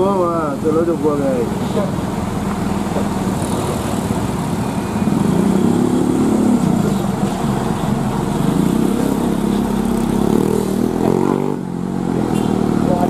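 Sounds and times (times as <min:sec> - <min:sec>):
truck diesel engines running: 0:00.0 - 0:13.0.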